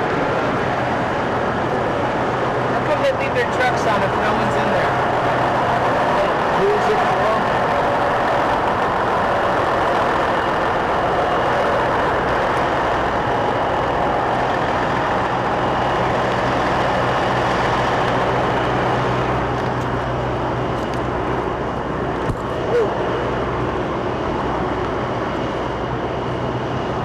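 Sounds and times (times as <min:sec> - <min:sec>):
diesel truck engines idling: 0:00.0 - 0:27.0
low hum: 0:00.0 - 0:27.0.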